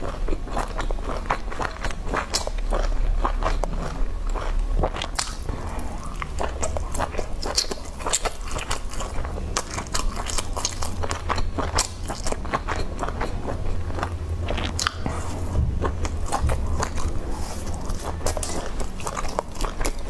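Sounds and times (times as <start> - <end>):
person chewing with wet clicks: 0.0 - 20.0.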